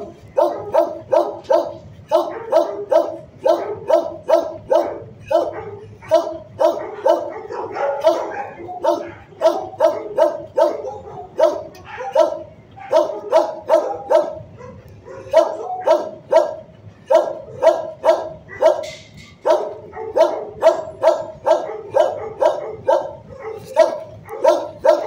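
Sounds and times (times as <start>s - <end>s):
dog barking: 0.0s - 25.0s.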